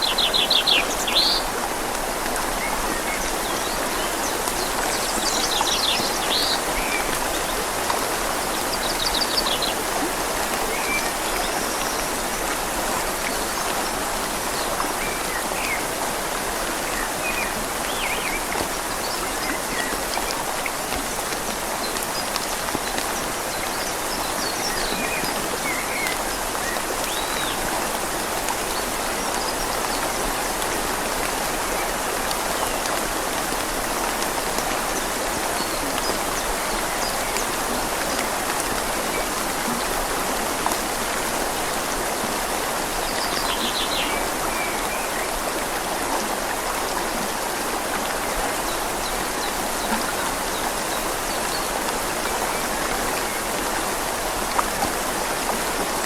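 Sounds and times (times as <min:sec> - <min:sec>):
rain falling on leaves: 0:00.0 - 0:56.0
river flowing: 0:00.0 - 0:56.0.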